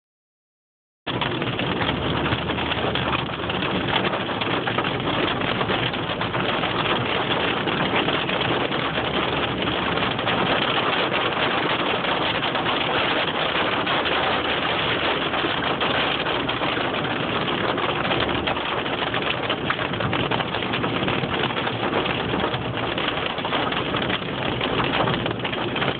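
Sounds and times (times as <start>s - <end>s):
hail and rain pelting down: 1.1s - 25.9s.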